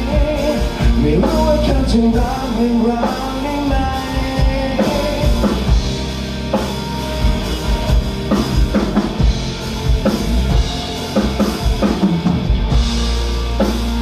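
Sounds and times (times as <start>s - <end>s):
drum kit beat: 0.0s - 14.0s
live band playing pop-rock: 0.0s - 14.0s.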